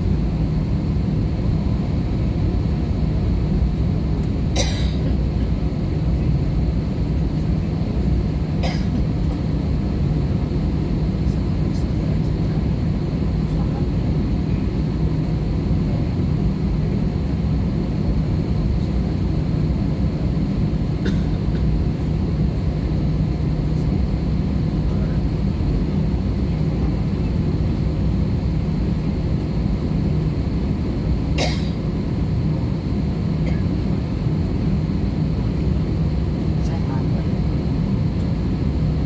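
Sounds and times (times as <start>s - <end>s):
airplane cabin engine and airflow rush: 0.0s - 39.0s.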